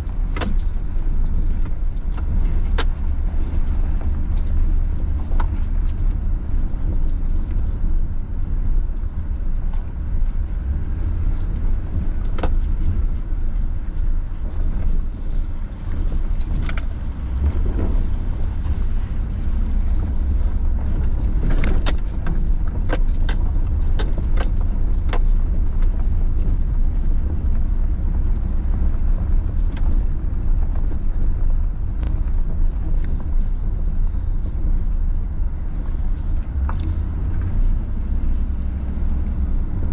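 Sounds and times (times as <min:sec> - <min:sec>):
light rattles and clicks: 0:00.0 - 0:08.2, 0:11.3 - 0:28.2, 0:31.6 - 0:39.9
car driving rumble: 0:00.0 - 0:39.9.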